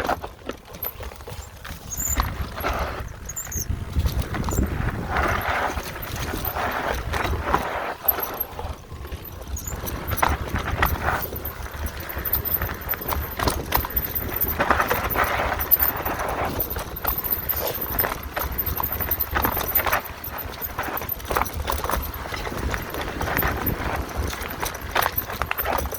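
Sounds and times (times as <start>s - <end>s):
bike clattering over bumps: 0.0s - 25.9s
bike tyres on dirt and rock: 0.0s - 25.9s.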